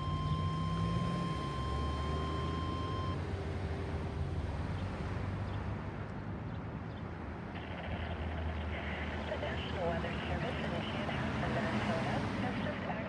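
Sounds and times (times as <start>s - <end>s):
passing vehicle rumble: 0.0s - 13.0s.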